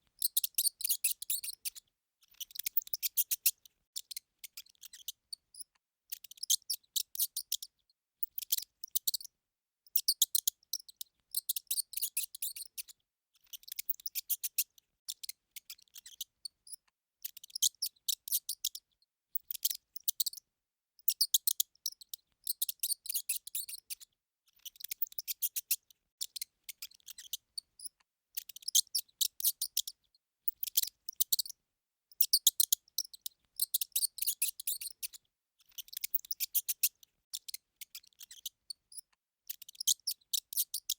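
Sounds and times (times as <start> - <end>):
mouse squeaking: 0.2 - 9.3, 9.9 - 20.4, 21.0 - 40.9.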